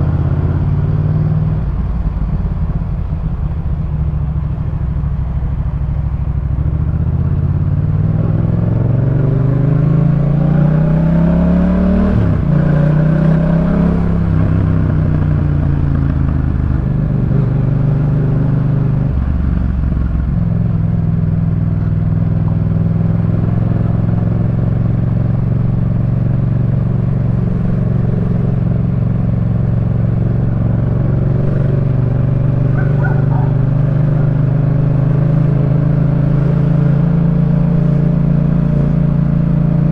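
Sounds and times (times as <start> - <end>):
motorcycle engine revving: 6.4 - 39.9.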